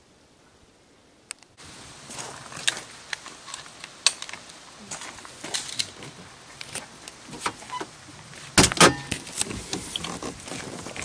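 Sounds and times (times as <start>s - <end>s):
footsteps crunching on gravel: 2.0s - 11.0s.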